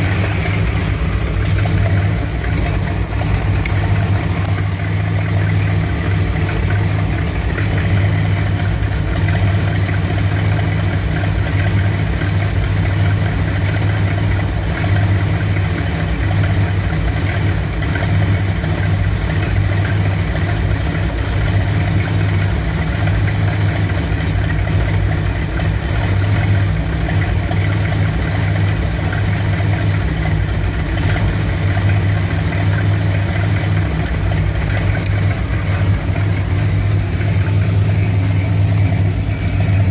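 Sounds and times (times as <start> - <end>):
rough engine idling: 0.0 - 39.9.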